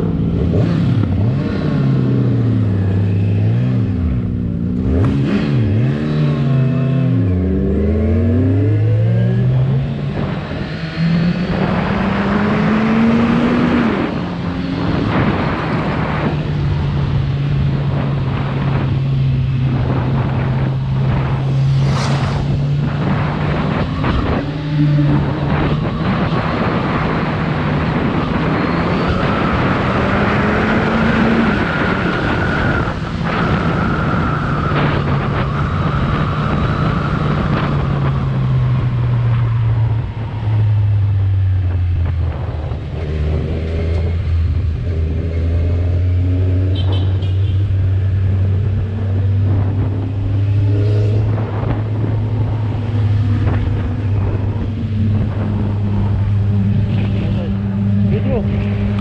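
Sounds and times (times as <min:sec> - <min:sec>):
motorcycle engine riding: 0:00.0 - 0:59.0.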